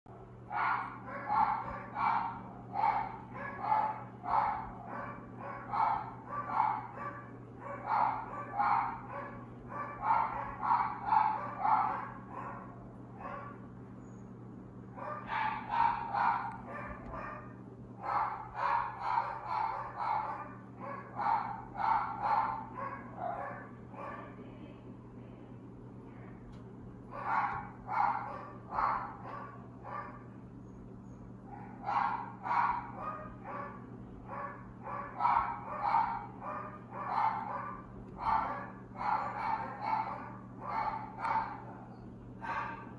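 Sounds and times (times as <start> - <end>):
dog barking: 0.1 - 13.6, 15.0 - 24.4, 27.1 - 30.3, 31.5 - 42.9
low steady hum: 0.1 - 42.9.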